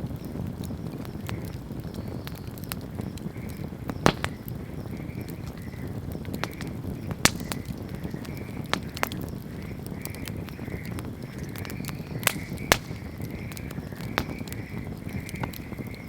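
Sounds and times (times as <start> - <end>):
wood fire crackling: 0.0 - 16.0
sharp pops of fire: 0.1 - 16.0.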